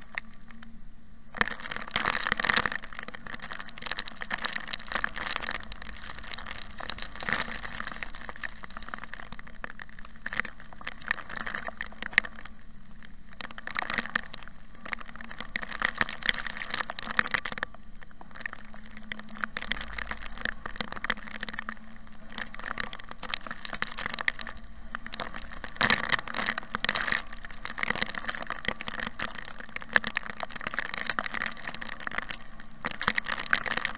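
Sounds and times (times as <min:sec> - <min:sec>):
faint steady hum: 0:00.0 - 0:33.9
rain striking car windshield: 0:01.4 - 0:33.9.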